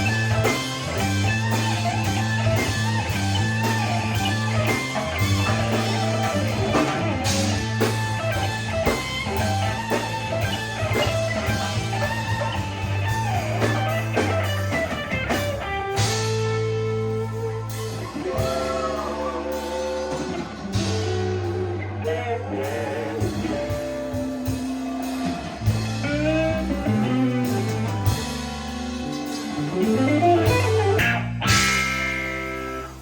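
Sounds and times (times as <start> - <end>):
bass guitar: 0.0 - 33.0
drums: 0.0 - 33.0
electric guitar lead: 0.0 - 33.0.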